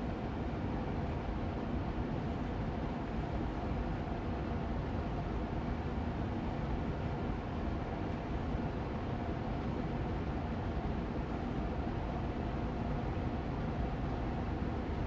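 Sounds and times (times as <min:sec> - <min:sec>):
air purifier fan whooshing hum: 0:00.0 - 0:15.0.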